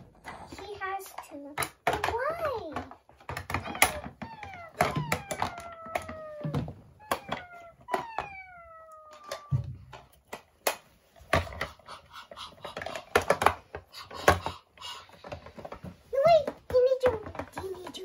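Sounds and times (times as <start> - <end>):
plastic toy pieces clicking: 0.6 - 18.0.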